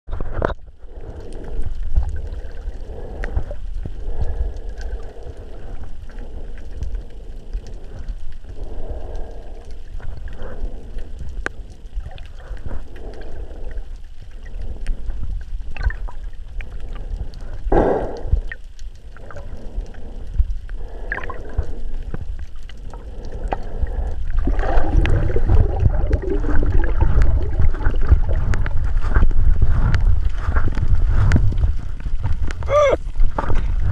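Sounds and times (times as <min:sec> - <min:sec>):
underwater rumble of moving water: 0:00.1 - 0:33.9.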